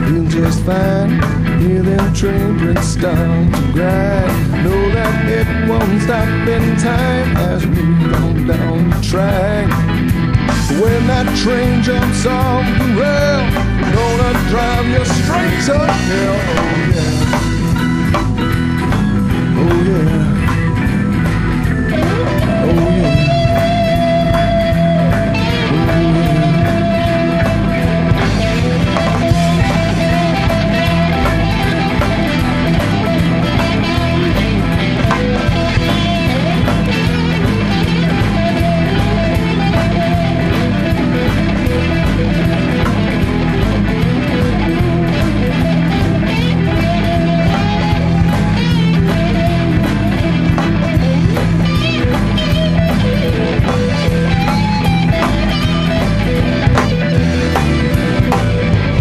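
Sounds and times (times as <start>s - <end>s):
blues-rock band playing: 0.0s - 59.0s
lead guitar bending notes: 0.0s - 59.0s.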